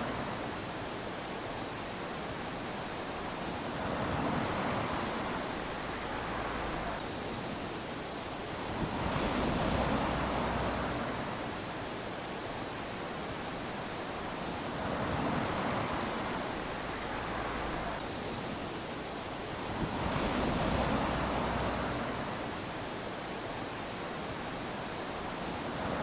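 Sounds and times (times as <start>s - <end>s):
small waves lapping on beach: 0.0s - 26.0s.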